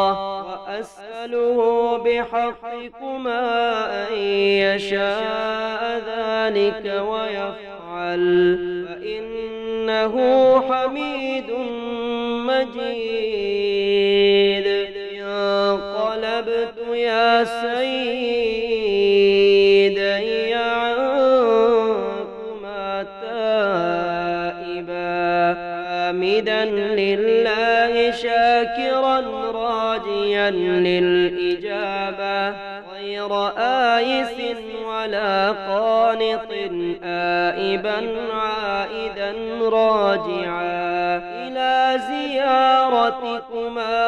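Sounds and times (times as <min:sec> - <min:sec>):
person chanting melodically: 0:00.0 - 0:44.0.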